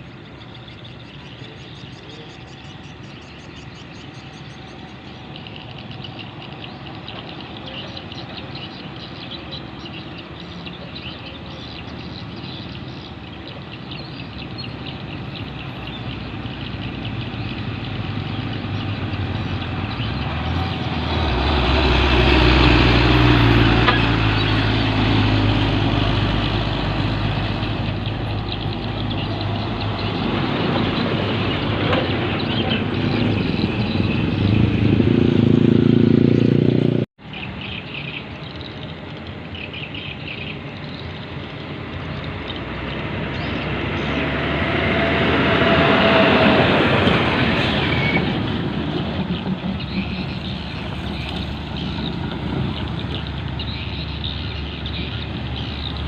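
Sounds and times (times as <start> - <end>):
truck diesel engines running: 0.0 - 56.0.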